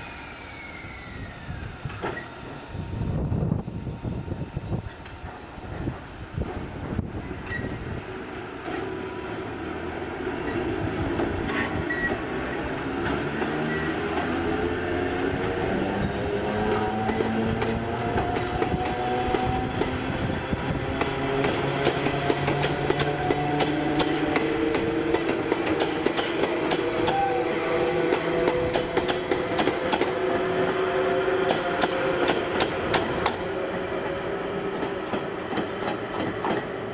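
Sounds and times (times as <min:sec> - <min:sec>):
passenger train rumbling: 0:00.0 - 0:36.9.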